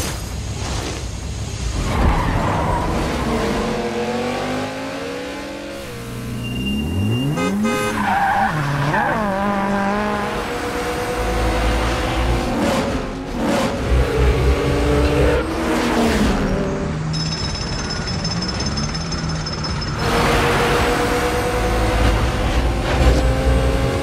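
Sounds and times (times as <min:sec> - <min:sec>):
car engines revving: 0:01.8 - 0:17.1, 0:19.1 - 0:24.0
tyres skidding: 0:01.8 - 0:24.0.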